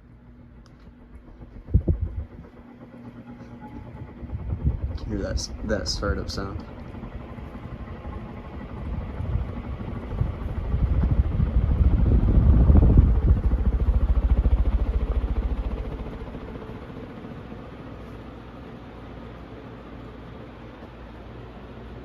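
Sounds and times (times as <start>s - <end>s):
ceiling fan pulsing hum: 0.0s - 22.0s.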